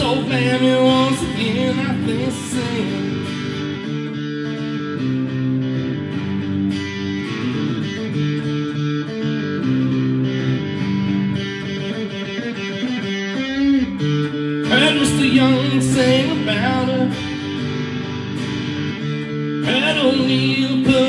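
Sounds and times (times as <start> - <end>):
electric guitar picked chords: 0.0 - 21.0.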